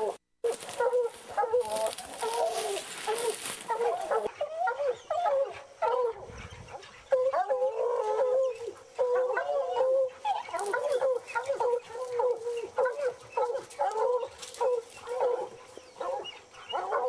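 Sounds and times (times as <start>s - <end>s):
hounds baying: 0.0s - 17.0s.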